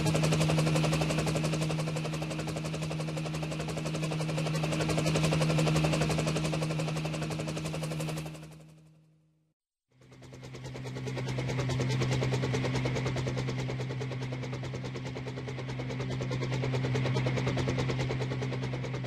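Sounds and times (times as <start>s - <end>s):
model helicopter rotors buzzing: 0.0s - 8.8s, 9.9s - 19.0s.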